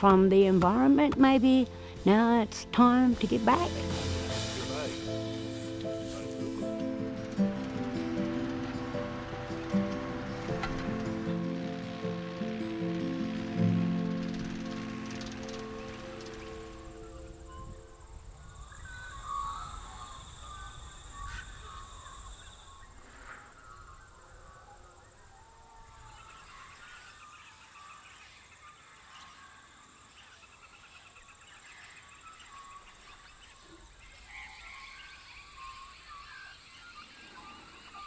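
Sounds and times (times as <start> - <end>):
birds chirping and warbling: 0.0 - 38.0
high insect drone: 0.8 - 38.0.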